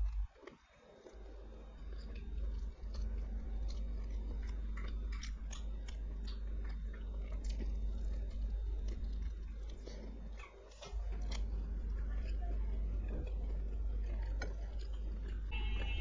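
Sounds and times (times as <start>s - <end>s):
low hum: 0.0s - 16.0s
person chewing food: 0.0s - 16.0s.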